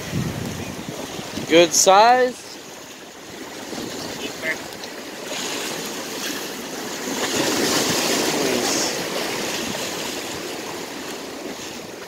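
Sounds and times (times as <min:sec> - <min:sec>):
waves splashing against rocks: 0:00.0 - 0:12.0.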